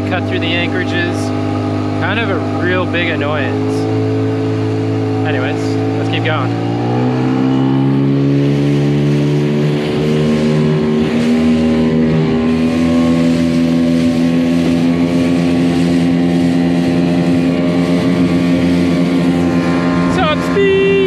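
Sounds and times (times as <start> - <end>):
outboard motor running: 0.0 - 21.0
water rushing past hull: 0.0 - 21.0.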